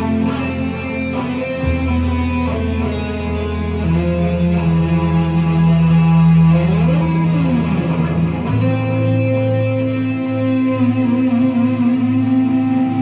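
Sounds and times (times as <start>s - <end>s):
electric guitar solo: 0.0s - 13.0s.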